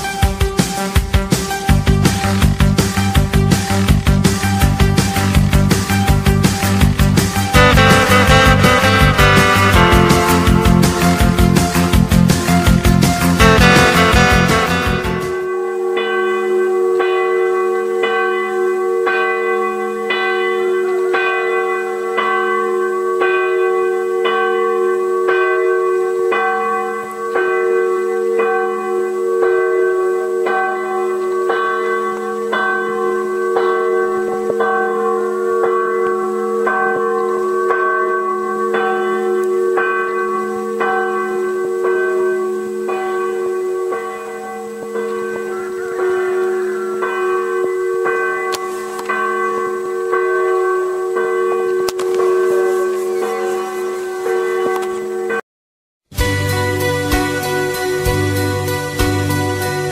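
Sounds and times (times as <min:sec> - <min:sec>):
church bells ringing: 0:04.4 - 0:55.4.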